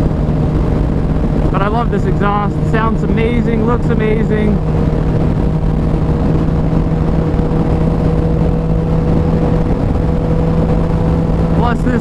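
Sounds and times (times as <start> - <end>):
motorcycle engine cruising: 0.0 - 12.0
wind noise: 0.0 - 12.0.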